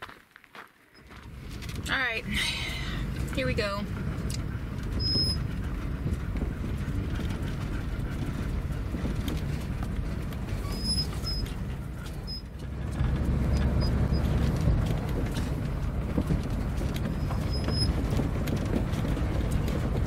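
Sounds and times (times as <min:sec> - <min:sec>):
engine and tyre rumble: 0:00.0 - 0:20.0
vehicle knocks and rattles: 0:01.0 - 0:20.0.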